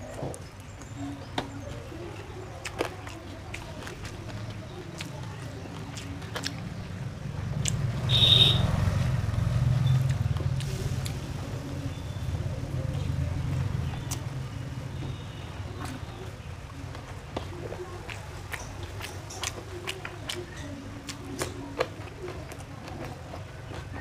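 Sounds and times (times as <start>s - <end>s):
motor vehicle passing: 3.7s - 24.0s.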